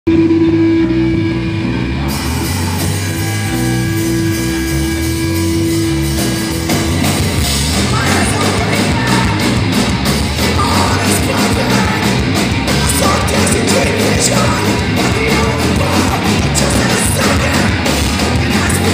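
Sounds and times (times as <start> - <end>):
live rock band playing: 0.1 - 18.9
pulsing bass and drums: 0.1 - 18.9.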